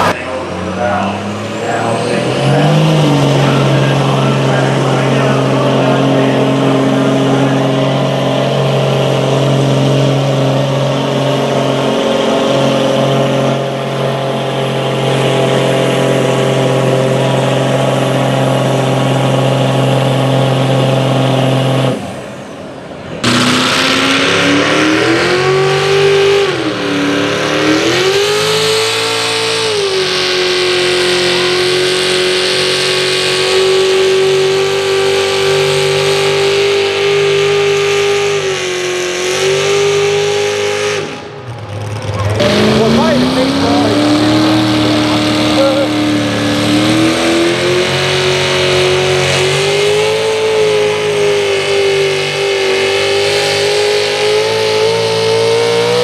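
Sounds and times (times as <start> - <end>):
diesel pickup engine under load: 0.0 - 56.0
second pickup engine revving: 0.0 - 56.0.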